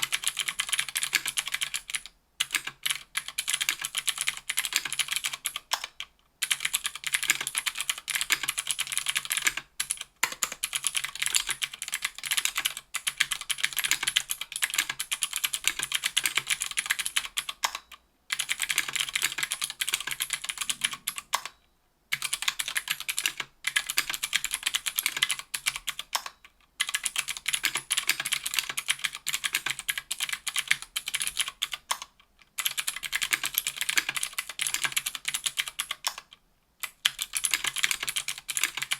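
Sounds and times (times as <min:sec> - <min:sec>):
fast typing on clicky keyboard: 0:00.0 - 0:38.9.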